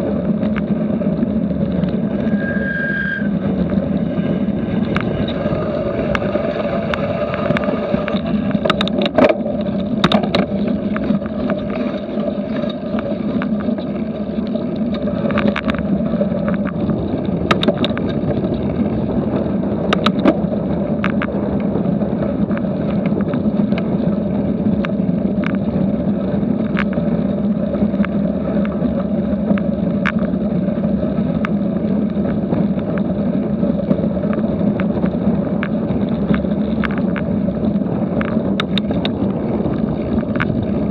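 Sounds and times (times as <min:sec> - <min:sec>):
bike clicking and rattling: 0:00.0 - 0:40.9
tyres rumbling on gravel: 0:00.0 - 0:40.9
wind on microphone: 0:00.0 - 0:40.9.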